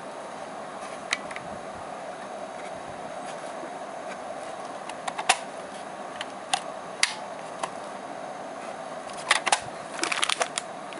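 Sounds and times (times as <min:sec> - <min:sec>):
steady background hiss: 0:00.0 - 0:10.9.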